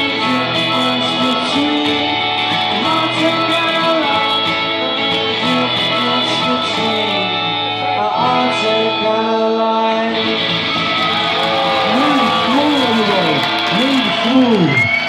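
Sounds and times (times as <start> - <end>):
guitars playing: 0.0 - 15.0.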